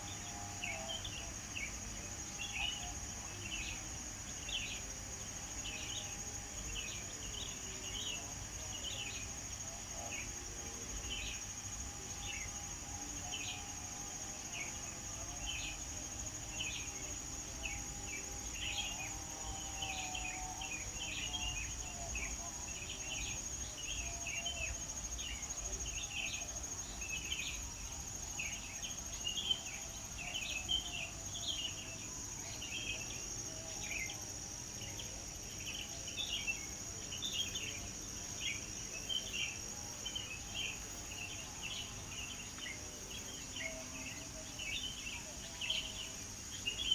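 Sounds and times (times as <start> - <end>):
high-pitched insect drone: 0.0 - 46.9.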